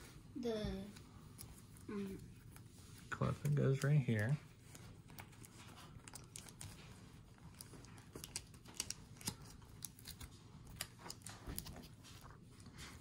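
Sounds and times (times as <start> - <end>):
plastic card sleeves crinkling: 1.2 - 12.5.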